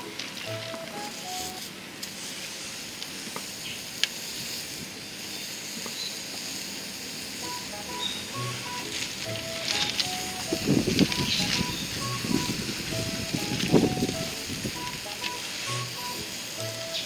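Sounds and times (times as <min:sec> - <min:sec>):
fire crackling: 0:00.0 - 0:17.0
meat sizzling on a grill: 0:00.4 - 0:17.0.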